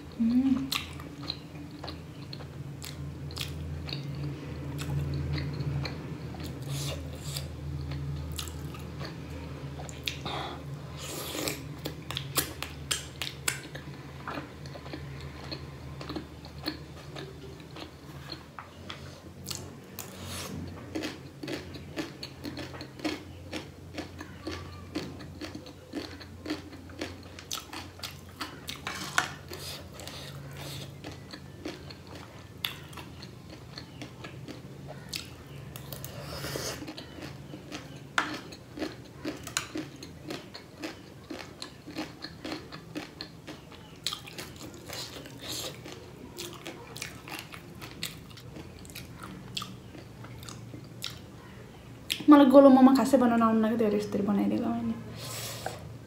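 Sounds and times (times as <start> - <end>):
person chewing with wet smacking: 0.1 - 52.3.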